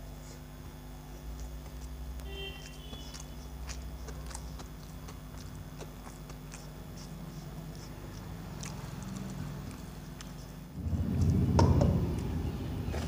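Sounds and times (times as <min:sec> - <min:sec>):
man chewing: 0:00.0 - 0:13.0
steady low hum: 0:00.0 - 0:13.0
fingers mixing food on steel plate: 0:01.2 - 0:13.0.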